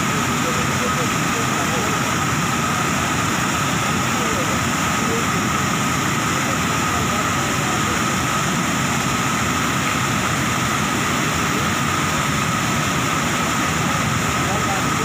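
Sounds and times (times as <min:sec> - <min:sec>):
white water rushing over a weir: 0:00.0 - 0:15.0.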